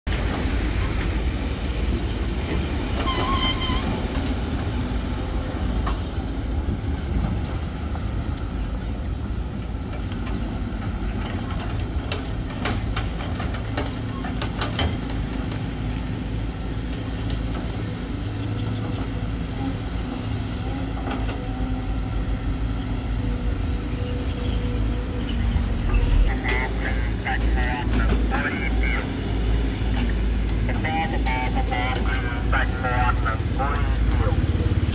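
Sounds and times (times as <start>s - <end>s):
excavator diesel engine: 0.1s - 34.9s.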